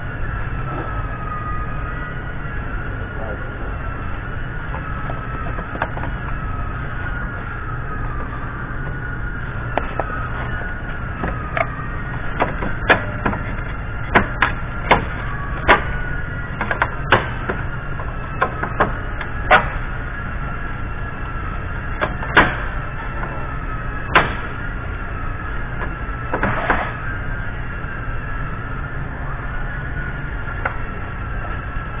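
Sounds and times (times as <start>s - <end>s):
faint whine: 0.0s - 32.0s
steady shop hum: 0.0s - 32.0s.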